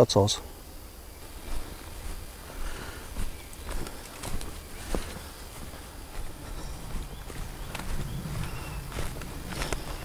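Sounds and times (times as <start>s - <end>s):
faint bird chirp: 0.0s - 10.0s
footsteps on forest path: 0.5s - 10.0s.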